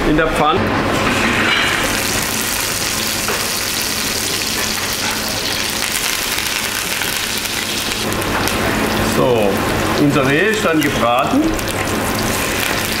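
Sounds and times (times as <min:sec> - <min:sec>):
meat sizzling in a frying pan: 0:01.7 - 0:13.0.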